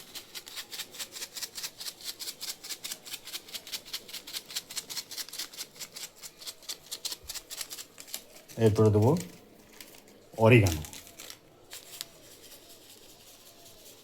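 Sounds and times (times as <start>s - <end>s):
shaker jar rattling: 0.0s - 14.0s.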